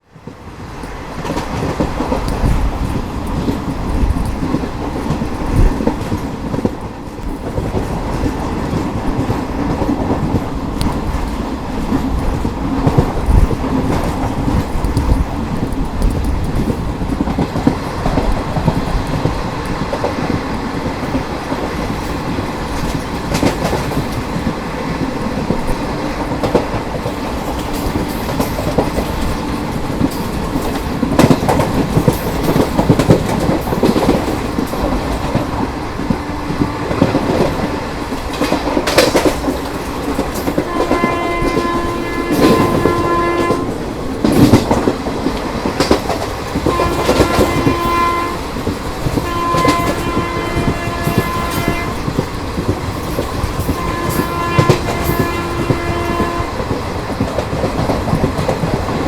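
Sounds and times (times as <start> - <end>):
train rolling rumble: 0.0 - 59.0
wheels clicking over rail joints: 0.2 - 59.0.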